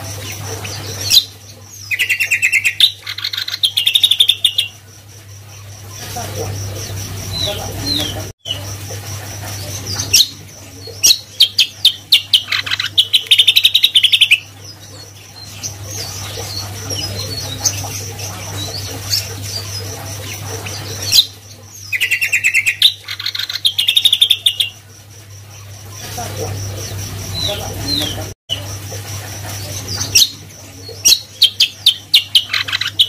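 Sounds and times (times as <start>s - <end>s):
bird chirps: 0.0s - 8.8s, 9.5s - 28.8s, 29.6s - 33.0s
caged bird singing: 0.0s - 8.8s, 9.6s - 28.8s, 29.6s - 33.0s.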